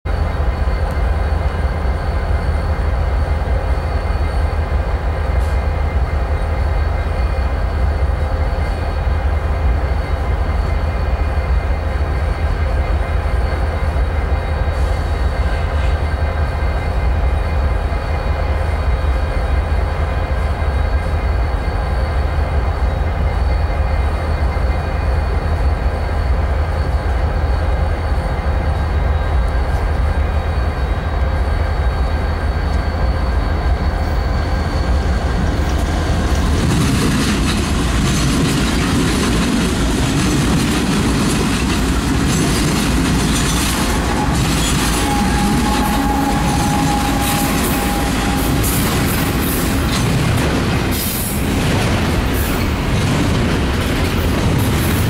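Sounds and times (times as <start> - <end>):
diesel locomotives rumbling: 0.0 - 55.0.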